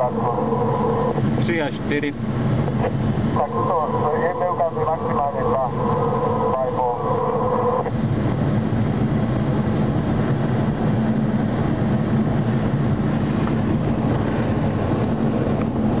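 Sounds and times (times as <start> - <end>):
airflow rushing over canopy: 0.0 - 16.0
low steady hum: 0.0 - 16.0.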